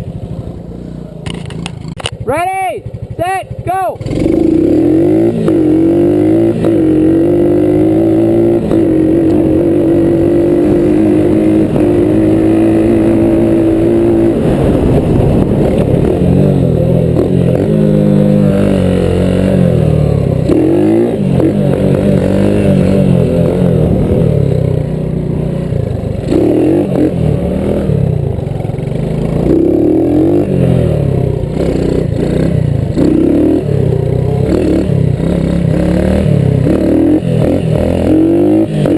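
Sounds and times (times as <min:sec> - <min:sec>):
small engine at full throttle: 0:04.0 - 0:38.9.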